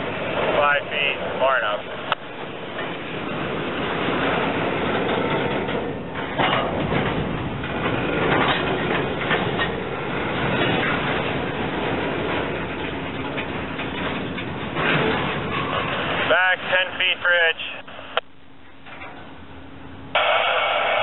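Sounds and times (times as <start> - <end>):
wheels clanking over rail joints: 0.0 - 16.8, 18.6 - 20.2
freight cars rolling on track: 0.0 - 21.0.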